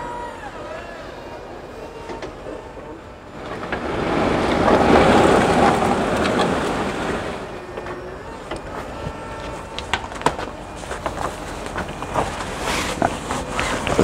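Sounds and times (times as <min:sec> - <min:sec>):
tank scraping across metal floor: 0:01.3 - 0:14.0.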